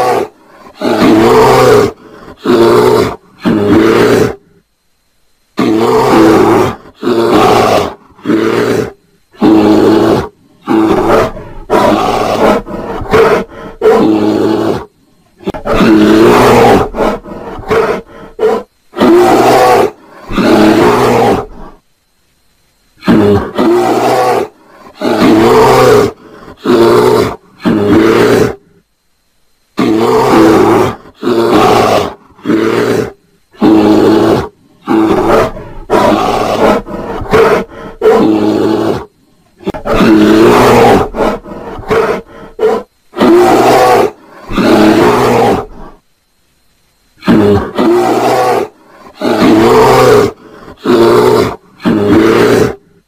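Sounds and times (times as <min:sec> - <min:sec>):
bear roaring: 0:00.0 - 0:04.6, 0:05.6 - 0:21.8, 0:23.0 - 0:28.8, 0:29.8 - 0:46.0, 0:47.2 - 0:53.0.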